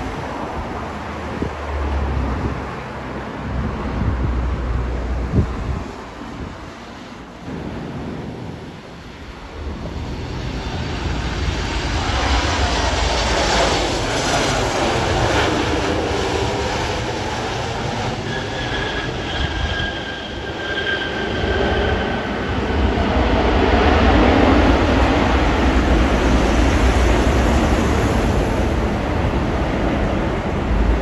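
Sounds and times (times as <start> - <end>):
aircraft engines rumbling: 0.0 - 31.0.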